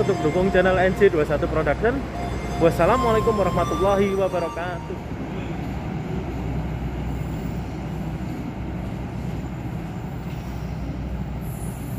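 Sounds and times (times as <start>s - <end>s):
train rumbling on rails: 0.0s - 11.9s.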